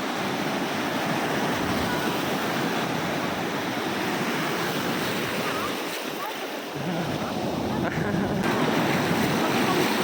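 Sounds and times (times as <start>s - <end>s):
waves breaking on beach: 0.0s - 10.0s.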